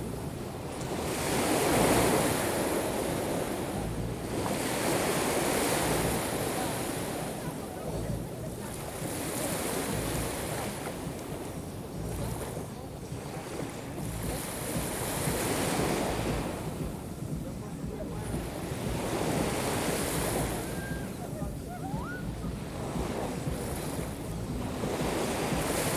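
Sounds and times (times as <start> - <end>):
surf breaking on shore: 0.0 - 25.9
wind buffeting microphone: 0.0 - 25.9.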